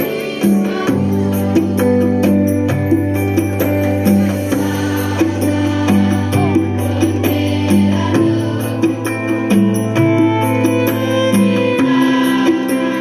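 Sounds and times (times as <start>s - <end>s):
large choir singing: 0.0s - 2.6s, 4.0s - 13.0s
instrumental accompaniment: 0.0s - 13.0s.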